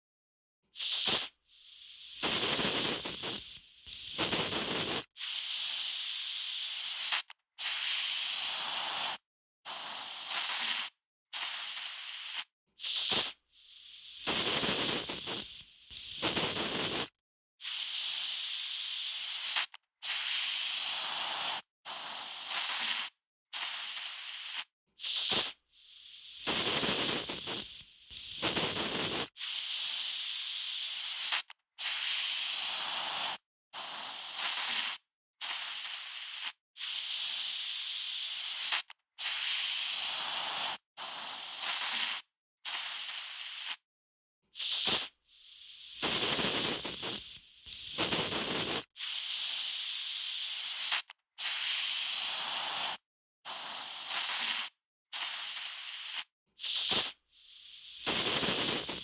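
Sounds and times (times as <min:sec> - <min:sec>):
aerosol spray can hissing: 0:00.8 - 0:43.8, 0:44.6 - 0:59.0.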